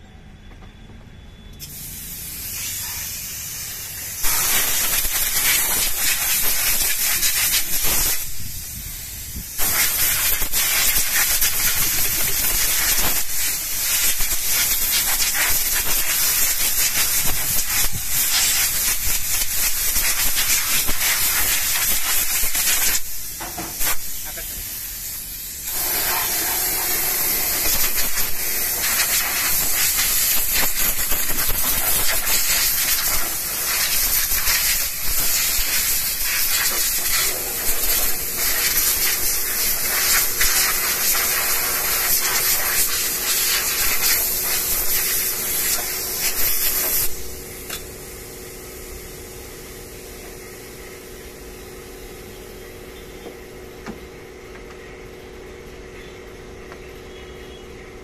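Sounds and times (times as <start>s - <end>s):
air blow gun hissing: 1.6s - 48.5s.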